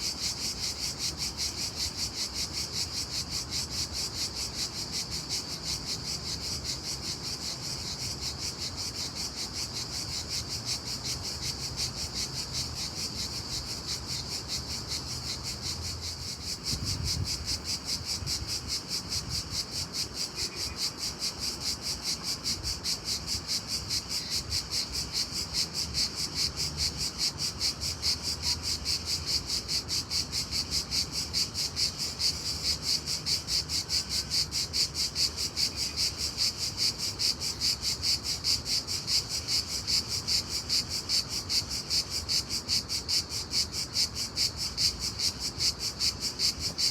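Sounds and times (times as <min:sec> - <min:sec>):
crickets chirping in rapid trill: 0:00.0 - 0:46.9.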